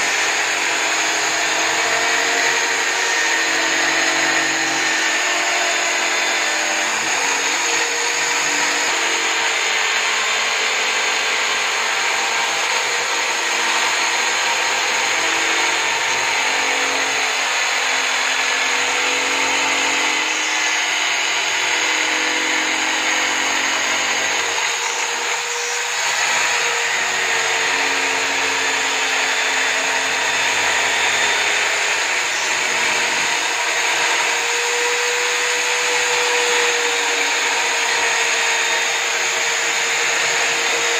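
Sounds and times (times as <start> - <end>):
electric drill running: 0.0 - 40.9.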